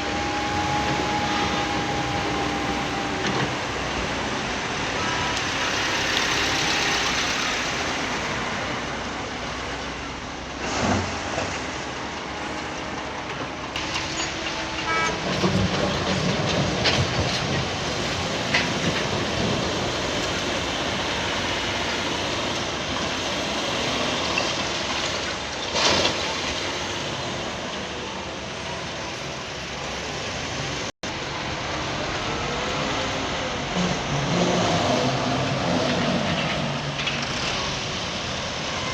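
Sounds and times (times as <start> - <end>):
diesel machinery engines running: 0.0 - 38.9.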